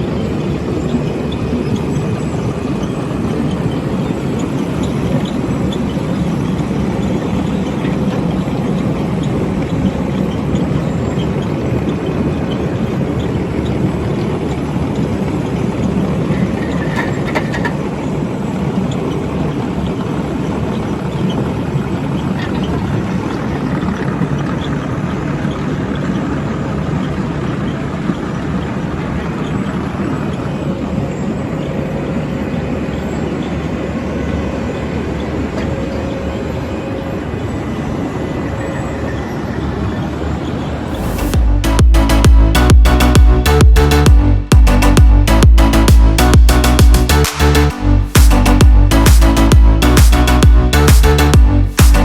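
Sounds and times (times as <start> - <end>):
heavy diesel engine drone: 0.0 - 52.0
machinery clattering and rattling: 0.0 - 52.0.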